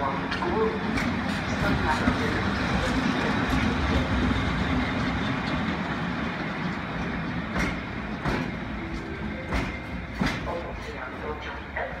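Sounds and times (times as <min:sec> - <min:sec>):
rail joint clicks: 0:00.0 - 0:11.7
train wheels rumbling on rails: 0:00.0 - 0:12.0.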